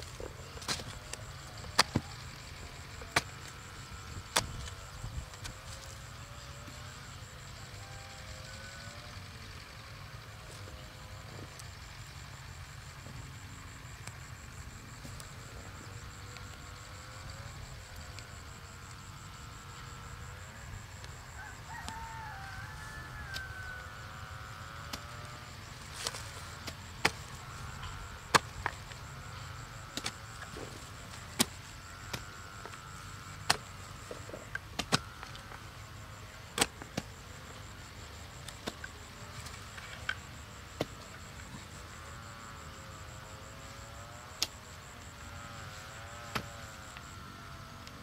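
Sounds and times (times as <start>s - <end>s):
faint wavering drone: 0.0s - 48.0s.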